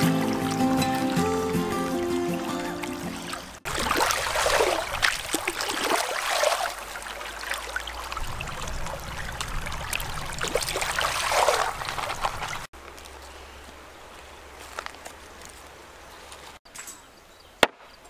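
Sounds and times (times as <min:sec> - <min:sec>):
stream water splashing: 0:00.0 - 0:16.6.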